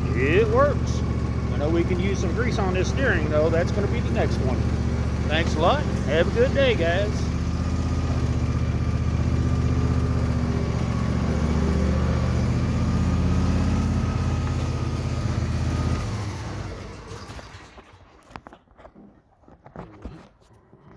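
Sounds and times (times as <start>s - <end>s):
lawn tractor engine running: 0.0s - 18.3s.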